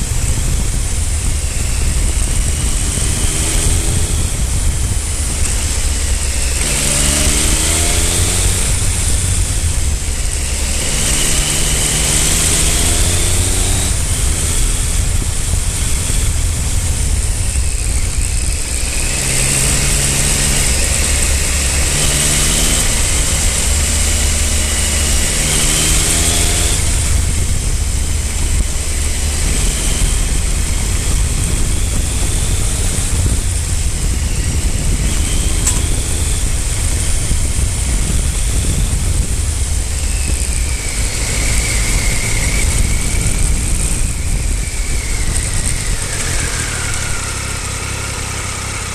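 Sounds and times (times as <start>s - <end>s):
motorcycle engine revving: 0.0s - 48.9s
road rumble: 0.0s - 48.9s
wind rush: 0.0s - 48.9s.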